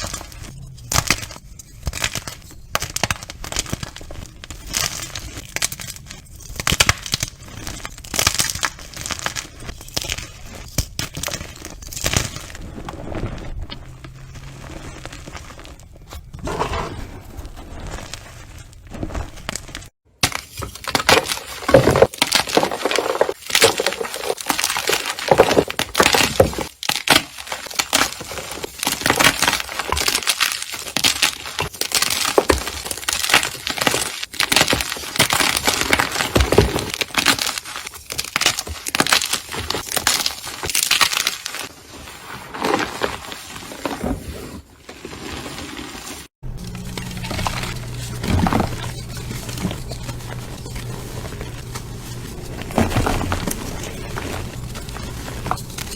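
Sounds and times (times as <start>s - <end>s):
slime crunching and crackling: 0.0s - 16.1s, 20.8s - 44.0s, 44.9s - 55.9s.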